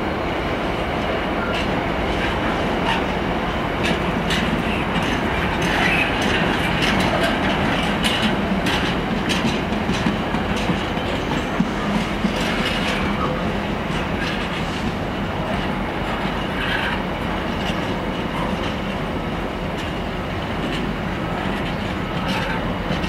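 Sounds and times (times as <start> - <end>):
steel wheels rumbling on rail: 0.0 - 23.0
wheels clacking over track: 1.4 - 23.0.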